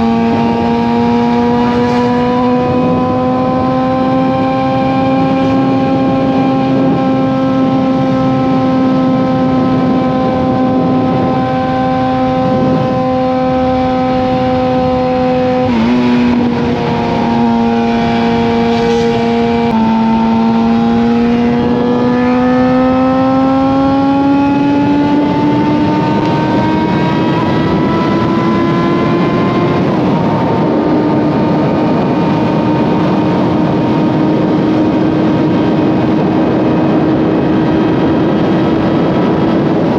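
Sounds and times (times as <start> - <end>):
motorcycle engine at speed: 0.0 - 39.9
rushing wind noise: 0.0 - 39.9.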